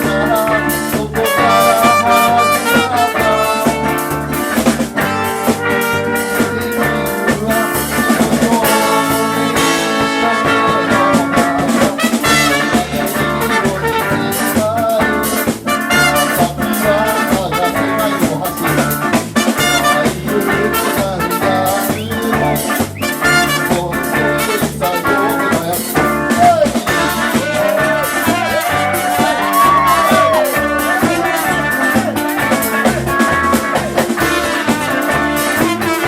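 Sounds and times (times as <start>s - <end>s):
brass melody: 0.0s - 36.0s
drum kit: 0.0s - 36.0s.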